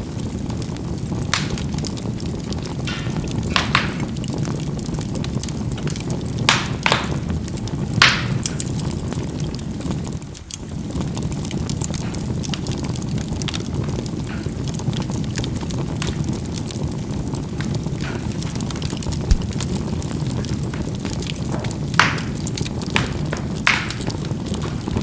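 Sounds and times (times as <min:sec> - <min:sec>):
coals crackling and popping: 0:00.0 - 0:25.0
low rushing of fire: 0:00.0 - 0:25.0.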